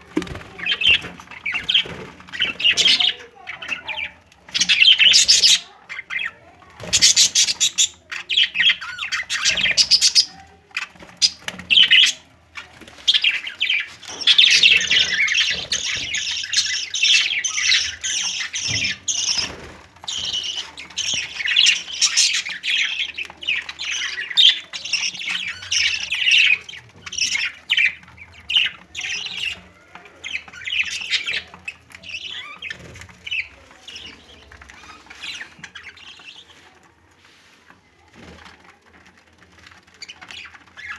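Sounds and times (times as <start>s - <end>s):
budgerigars chattering and squawking: 0.2s - 36.7s, 39.9s - 40.9s.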